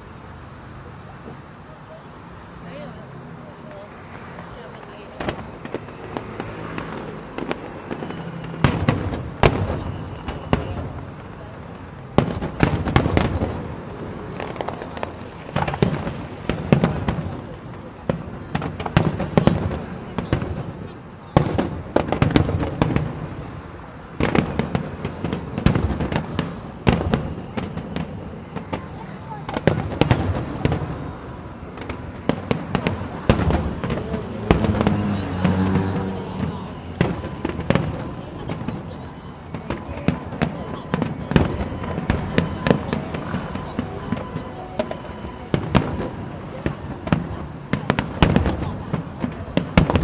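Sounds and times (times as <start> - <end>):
fireworks bursting with sharp bangs: 0.0 - 50.0.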